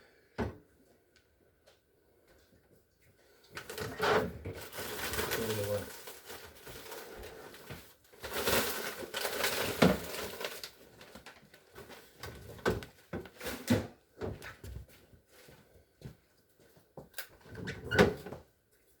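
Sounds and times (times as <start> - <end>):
rustling of objects: 1.2 - 19.0.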